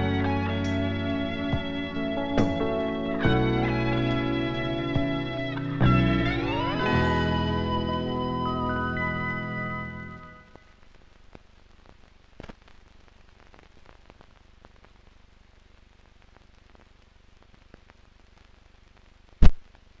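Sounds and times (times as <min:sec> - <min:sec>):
film soundtrack crackle and clicks: 0:00.0 - 0:20.0.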